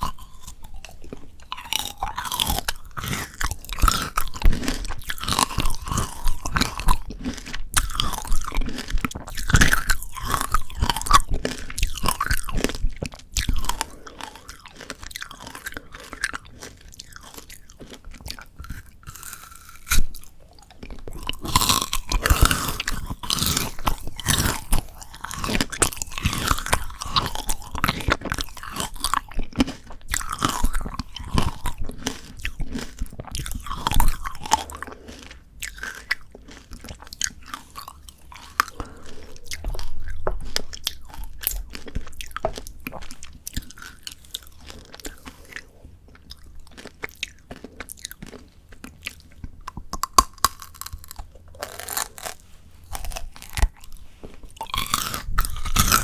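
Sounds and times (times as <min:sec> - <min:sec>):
candied fruit crunching: 0:00.0 - 0:56.0
chewing: 0:00.0 - 0:56.0.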